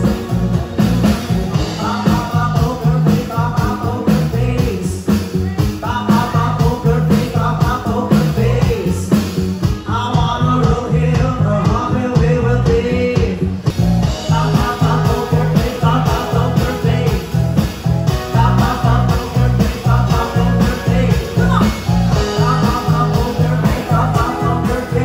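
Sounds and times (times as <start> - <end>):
drums: 0.0 - 25.0
electric bass guitar: 0.0 - 25.0
keyboards: 0.0 - 25.0.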